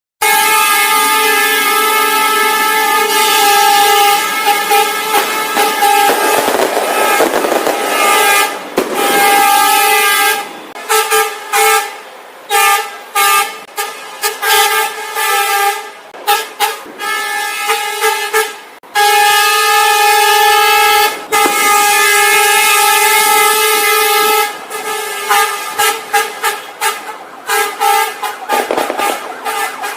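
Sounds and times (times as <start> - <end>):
vehicle horns honking: 0.2 - 29.9.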